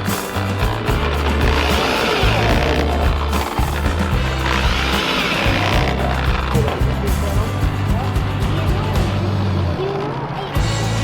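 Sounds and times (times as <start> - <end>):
background music with bass line: 0.0 - 9.7, 10.6 - 11.0.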